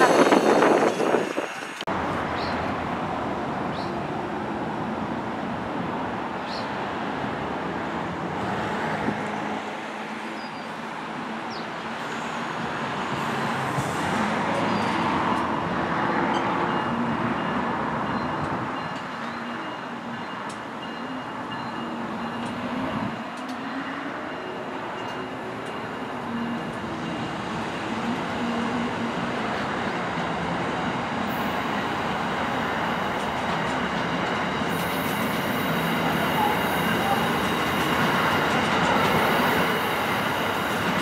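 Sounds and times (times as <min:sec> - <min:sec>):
electric train rumbling past: 0:00.0 - 0:41.0.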